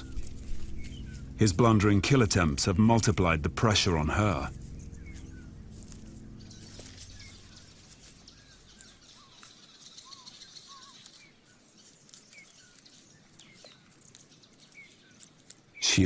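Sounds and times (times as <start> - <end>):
low steady hum: 0.0 - 14.2
birds chirping: 0.0 - 16.0
faint outdoor hiss: 0.0 - 16.0.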